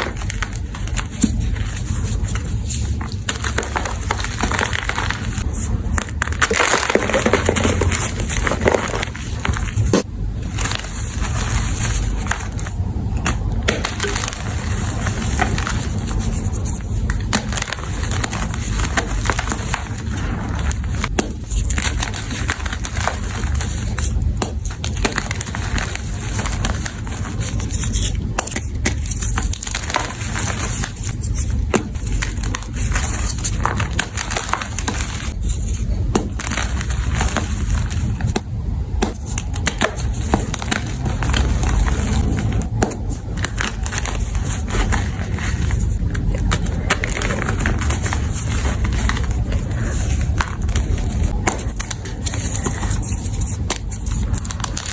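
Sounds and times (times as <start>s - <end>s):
chalk being crushed: 0.0s - 54.9s.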